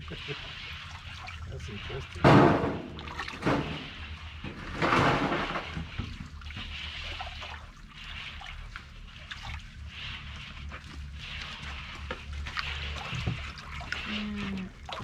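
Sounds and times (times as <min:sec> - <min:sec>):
thick glaze sloshing in basin: 0:00.0 - 0:15.0.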